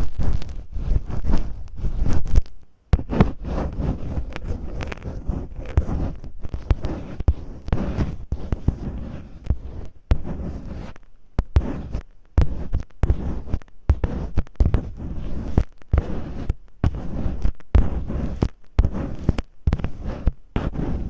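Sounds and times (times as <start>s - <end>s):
tape scratching on microphone: 0.0s - 21.0s.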